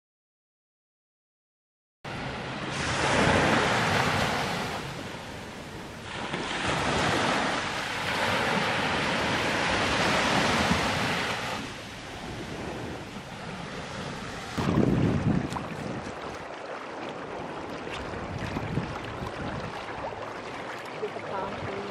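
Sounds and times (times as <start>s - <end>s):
small waves washing on beach: 2.1s - 21.9s
wind on microphone: 2.6s - 21.9s.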